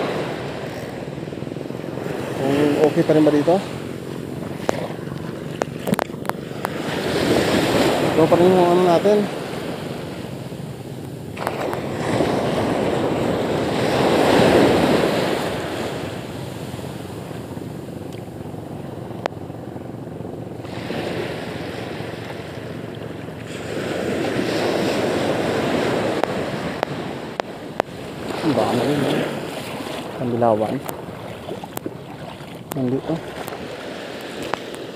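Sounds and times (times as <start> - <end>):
small waves breaking on beach: 0.0 - 34.9
wind buffeting microphone: 0.0 - 34.9.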